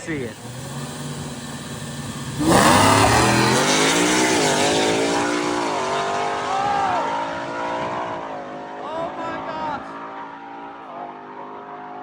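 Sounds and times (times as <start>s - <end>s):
truck engine accelerating hard: 0.0s - 12.0s.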